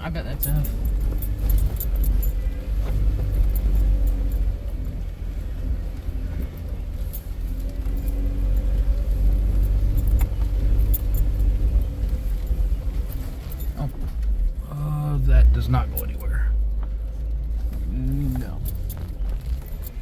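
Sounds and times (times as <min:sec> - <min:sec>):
light rattles and clicks: 0:00.0 - 0:14.6, 0:15.5 - 0:20.0
vehicle engine running: 0:00.0 - 0:20.0.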